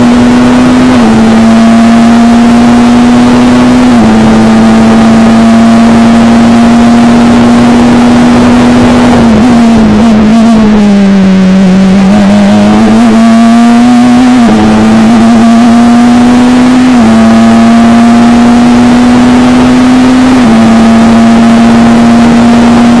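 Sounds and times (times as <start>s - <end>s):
racing car engine at full throttle: 0.0s - 23.0s.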